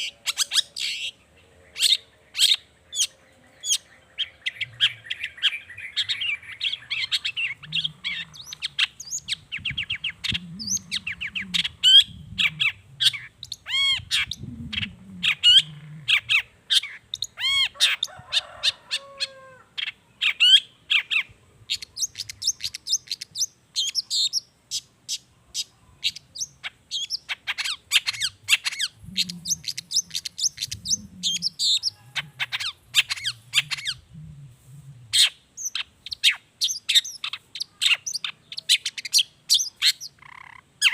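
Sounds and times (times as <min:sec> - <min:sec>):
shrike singing: 0:00.0 - 0:18.6, 0:26.1 - 0:40.9.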